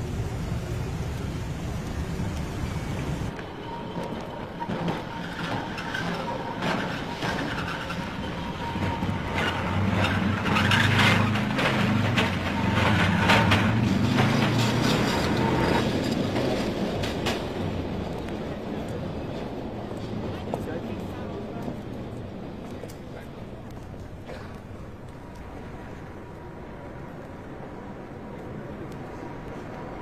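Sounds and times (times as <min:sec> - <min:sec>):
traffic and tram rumble: 0:00.0 - 0:30.0.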